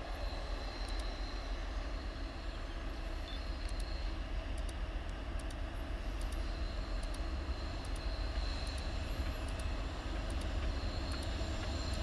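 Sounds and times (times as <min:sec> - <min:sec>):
diesel locomotive engines rumbling: 0:00.0 - 0:12.0.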